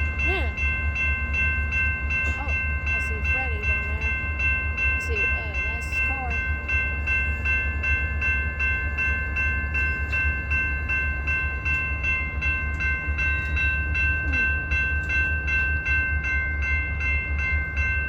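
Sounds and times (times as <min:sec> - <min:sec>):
railroad crossing bell ringing: 0:00.0 - 0:18.0.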